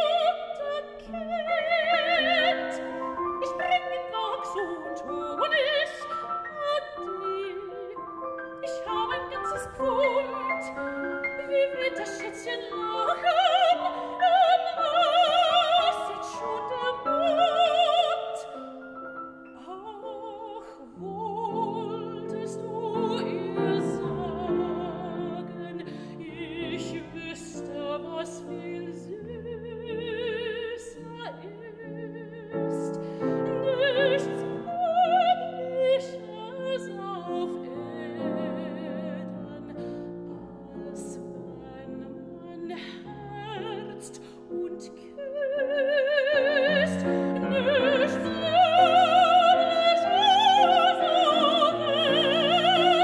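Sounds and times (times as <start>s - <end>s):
grand piano: 0.0s - 53.0s
soprano singing: 0.0s - 53.0s.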